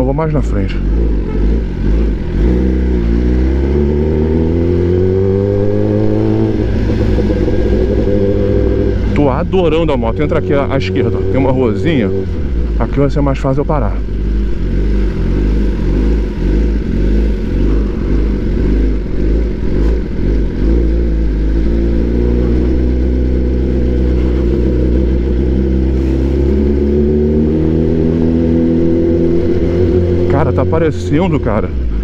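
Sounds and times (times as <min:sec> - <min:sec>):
loud motorcycle engine revving: 0:00.8 - 0:32.0.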